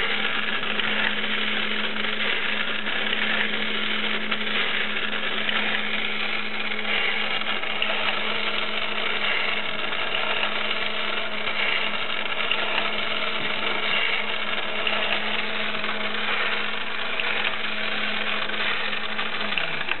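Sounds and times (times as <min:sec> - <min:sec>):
toy motor and gears whirring: 0:00.0 - 0:20.0.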